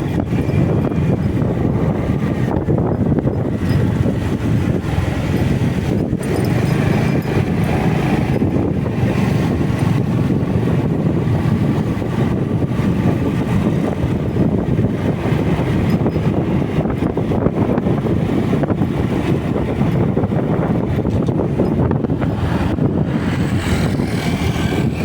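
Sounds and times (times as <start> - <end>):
motorcycle running: 0.0 - 25.0
tyres on road: 0.0 - 25.0
wind rushing over microphone: 0.0 - 25.0.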